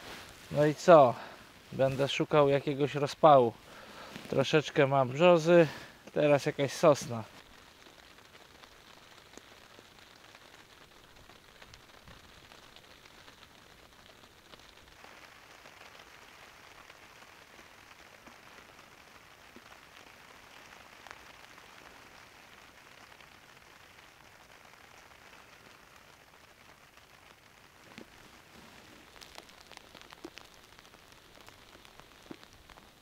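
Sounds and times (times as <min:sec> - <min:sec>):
faint steady rain: 0:00.0 - 0:33.0.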